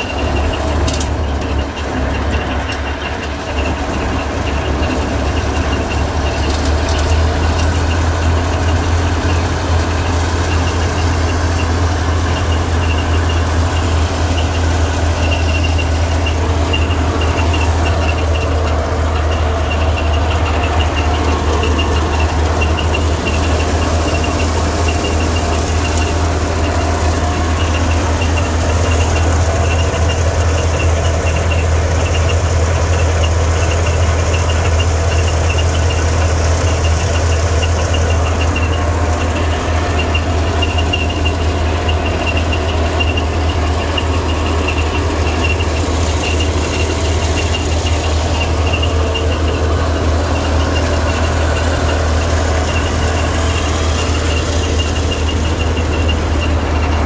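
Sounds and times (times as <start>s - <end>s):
tractor engine drone: 0.0s - 57.0s
fast high rattle: 0.1s - 57.0s.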